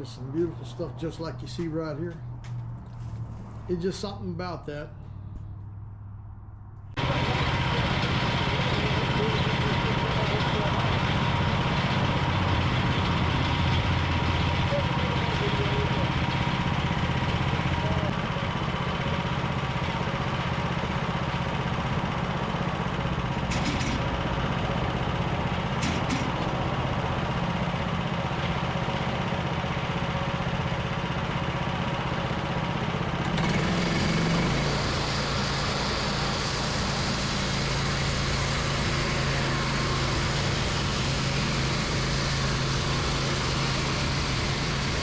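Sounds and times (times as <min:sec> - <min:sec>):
sawmill engine droning: 0:00.0 - 0:05.8, 0:07.0 - 0:45.0.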